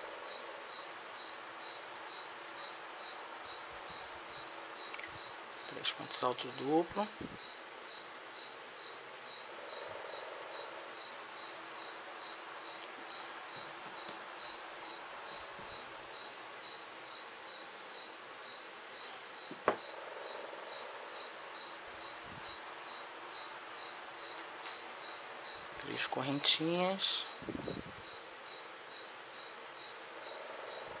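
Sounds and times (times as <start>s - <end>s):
insect chirp: 0.0s - 31.0s
insect trill: 0.0s - 31.0s.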